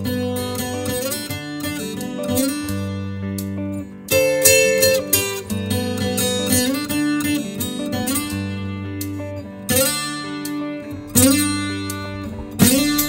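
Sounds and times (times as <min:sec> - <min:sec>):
plucked guitar notes: 0:00.0 - 0:13.0
strummed guitar chords: 0:00.0 - 0:13.0.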